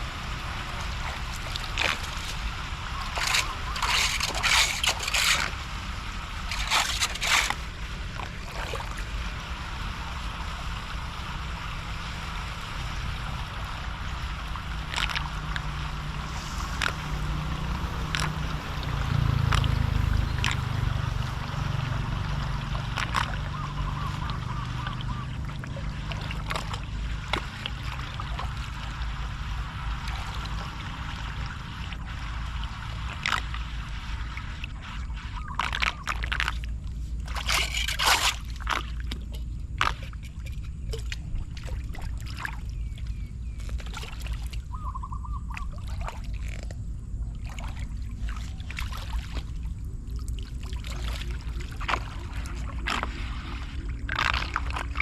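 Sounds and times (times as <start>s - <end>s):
floodwater sloshing and gurgling: 0.0s - 55.0s
water splashes: 0.0s - 55.0s.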